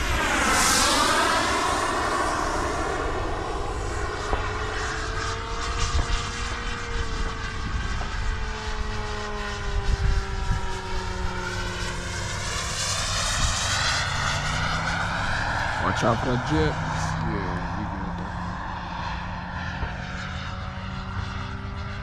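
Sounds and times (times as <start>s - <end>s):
model airplane motor whine: 0.0s - 22.0s.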